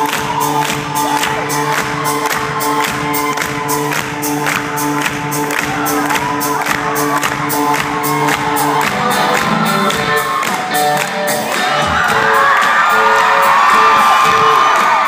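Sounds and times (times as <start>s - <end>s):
crowd cheering and whooping: 0.0s - 4.5s, 5.4s - 15.0s
steady drum beat: 0.0s - 15.0s.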